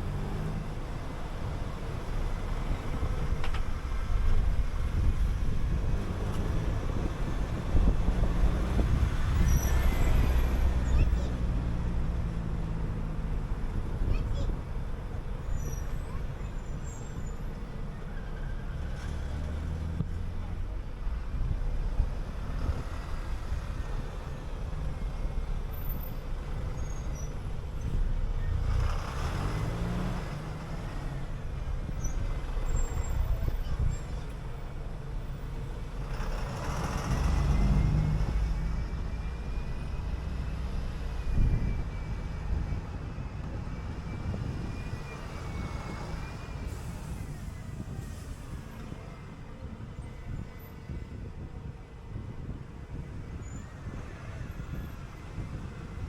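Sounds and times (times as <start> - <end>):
bus engine accelerating: 0.0 - 56.0.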